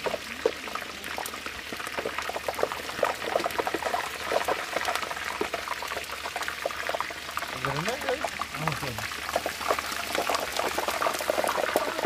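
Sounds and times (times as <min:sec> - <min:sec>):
hot oil bubbling and crackling: 0:00.0 - 0:12.0.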